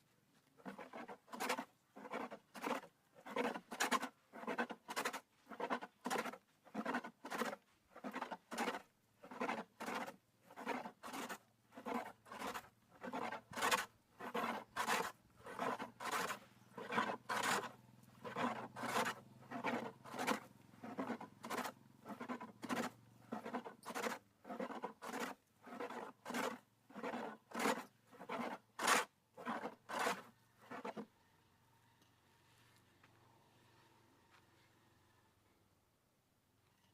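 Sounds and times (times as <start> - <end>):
sandpaper rasping on wood: 0.7 - 31.1.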